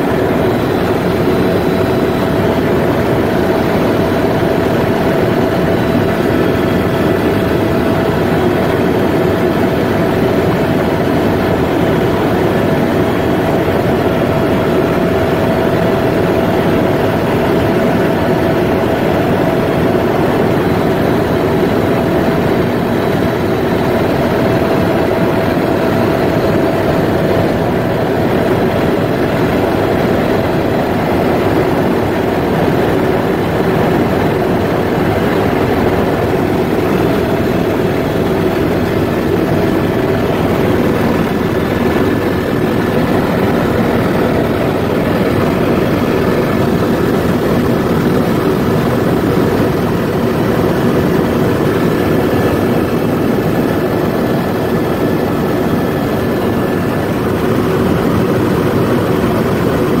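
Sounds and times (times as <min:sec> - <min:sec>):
aircraft engine drone in cabin: 0:00.0 - 1:00.0.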